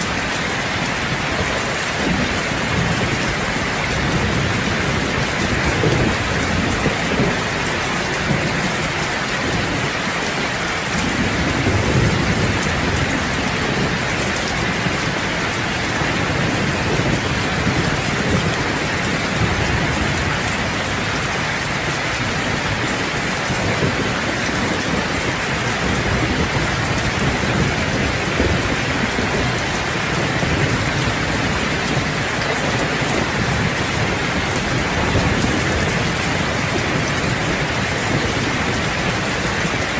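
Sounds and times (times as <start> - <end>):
heavy rain on a roof: 0.0 - 39.9
thunder rumbling: 0.0 - 39.9.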